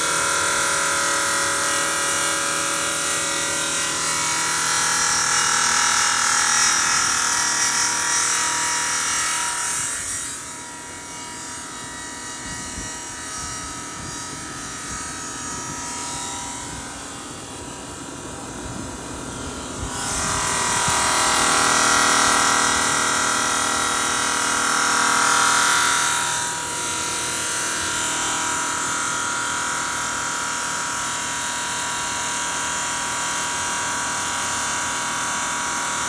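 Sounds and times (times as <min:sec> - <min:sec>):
saw motor whine: 0:00.0 - 0:36.0.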